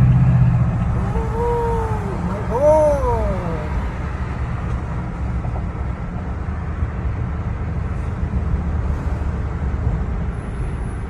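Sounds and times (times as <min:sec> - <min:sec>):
road rumble: 0:00.0 - 0:09.6.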